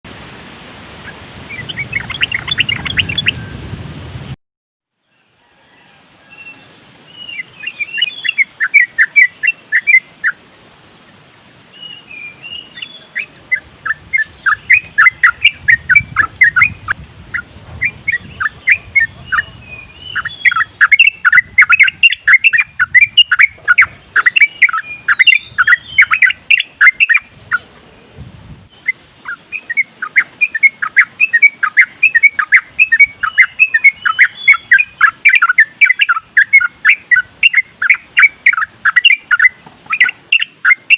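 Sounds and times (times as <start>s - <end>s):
low wind rumble: 0.1s - 4.4s, 5.2s - 40.9s
bulbul chattering song: 1.0s - 3.4s, 6.4s - 10.4s, 11.8s - 28.1s, 28.7s - 40.9s.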